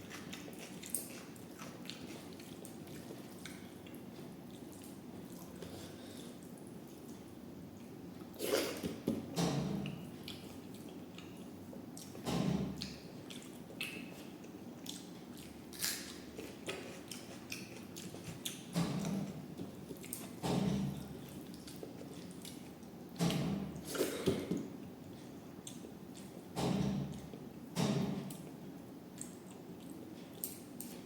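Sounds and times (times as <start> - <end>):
person chewing food: 0.0 - 9.2, 9.8 - 23.0, 23.7 - 26.5, 28.3 - 31.0.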